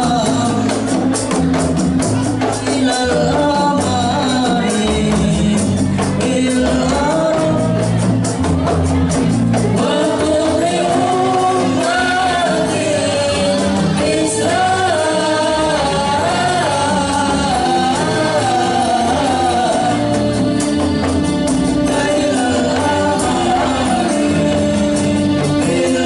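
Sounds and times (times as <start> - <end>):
frame drums rhythm: 0.0 - 26.0
high sung melody: 0.0 - 26.0.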